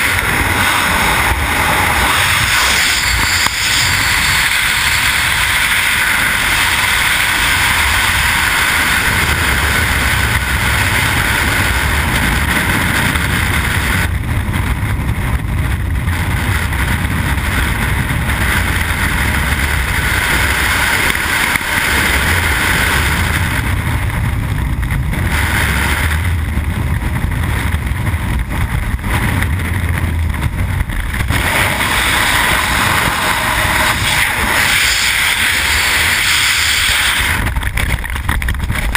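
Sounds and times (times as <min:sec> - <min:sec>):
low rumble: 0:00.0 - 0:38.9
wind buffeting microphone: 0:00.0 - 0:38.9.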